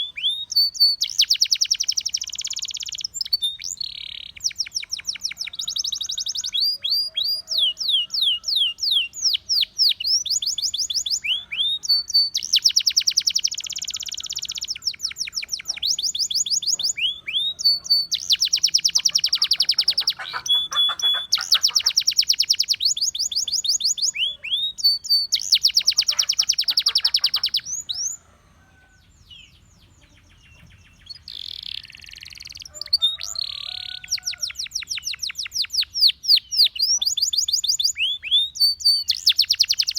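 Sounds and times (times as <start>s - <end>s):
canary singing rapid trills: 0.0s - 28.3s, 29.2s - 39.9s.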